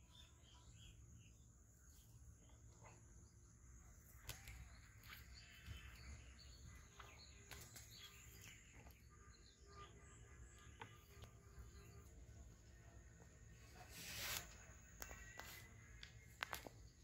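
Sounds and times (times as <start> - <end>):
small bird chirps: 0.0 - 17.0.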